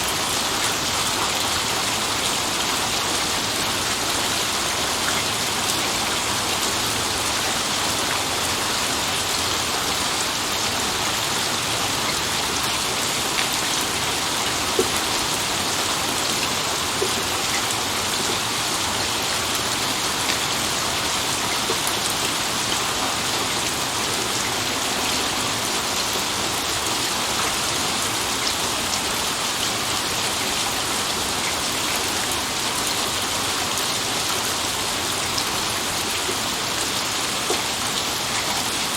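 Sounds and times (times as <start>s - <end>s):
steady dense rain: 0.0s - 38.9s.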